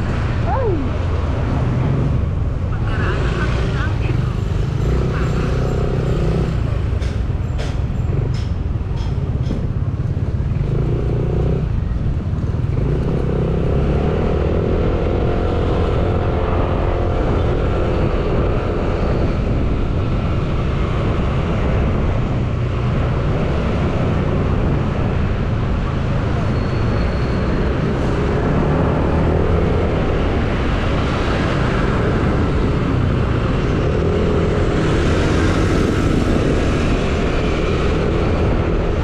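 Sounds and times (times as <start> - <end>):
motorcycle engine and road noise: 0.0 - 39.0.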